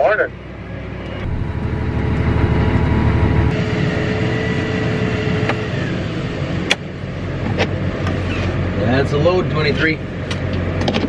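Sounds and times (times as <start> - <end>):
auger whine: 0.0 - 9.1
tractor engines droning: 0.0 - 11.0.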